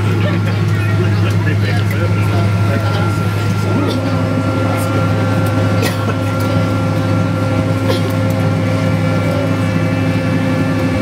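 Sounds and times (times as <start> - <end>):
jet engines humming in cabin: 0.0 - 11.0
steady engine tones: 0.0 - 11.0.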